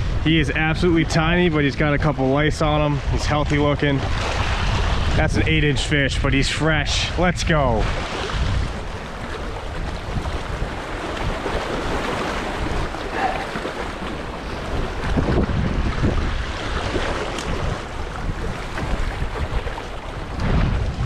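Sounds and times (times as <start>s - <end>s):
waves splashing over boulders: 0.0s - 21.0s
wind on microphone: 0.0s - 21.0s.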